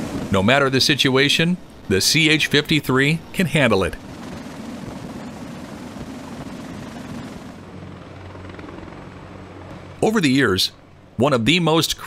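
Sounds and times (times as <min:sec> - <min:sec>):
helicopter rotor and turbine: 0:00.0 - 0:12.0.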